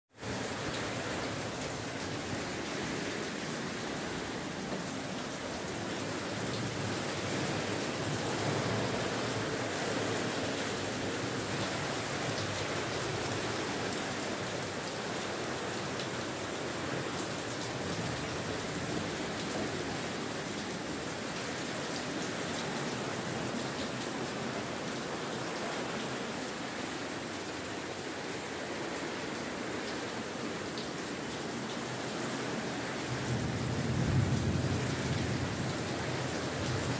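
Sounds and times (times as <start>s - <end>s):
heavy rain pouring: 0.2s - 36.9s.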